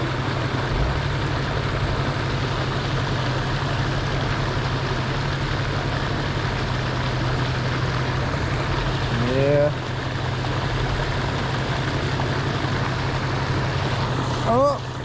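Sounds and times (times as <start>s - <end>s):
low hum: 0.0s - 15.0s
steady background noise: 0.0s - 15.0s.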